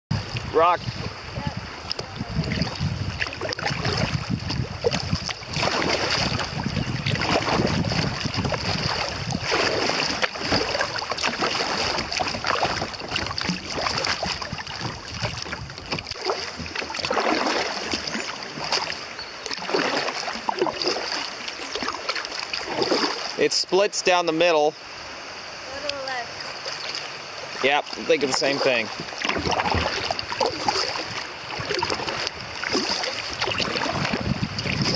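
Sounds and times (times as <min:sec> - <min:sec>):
wind rumbling on microphone: 0:00.1 - 0:23.3, 0:24.9 - 0:34.9
paddle strokes splashing: 0:00.1 - 0:34.9
water rushing along hull: 0:00.1 - 0:34.9.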